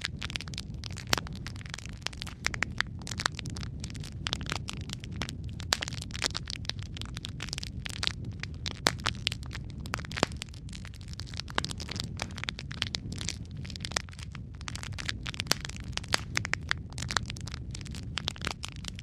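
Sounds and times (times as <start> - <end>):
low rumble of fire: 0.0 - 19.0
wood fire crackling: 0.0 - 19.0.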